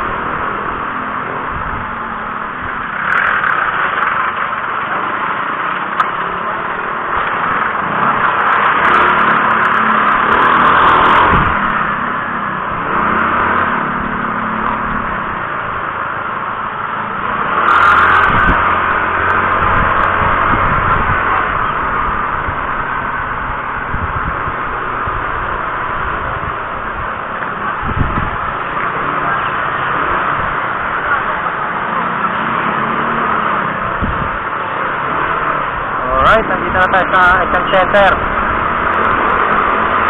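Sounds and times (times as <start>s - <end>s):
road and wind noise: 0.0s - 40.0s
vehicle engine running: 0.0s - 40.0s.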